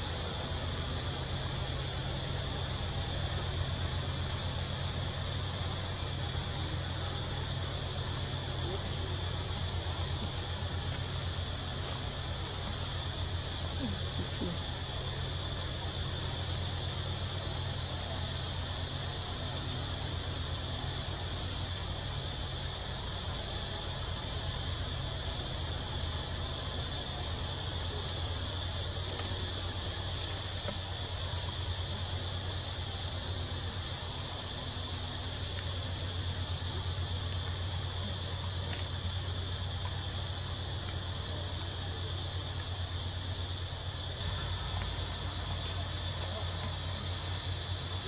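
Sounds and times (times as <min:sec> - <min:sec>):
insect chorus: 0:00.0 - 0:48.0
low steady hum: 0:00.0 - 0:48.0.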